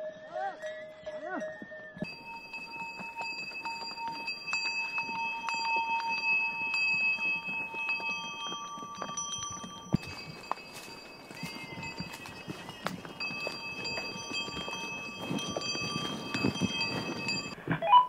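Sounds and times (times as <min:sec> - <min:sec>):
animal bells ringing: 0:00.0 - 0:17.6.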